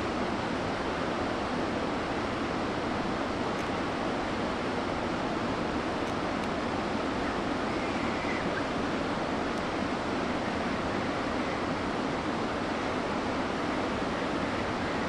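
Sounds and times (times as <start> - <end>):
mountain river rushing: 0.0 - 15.0.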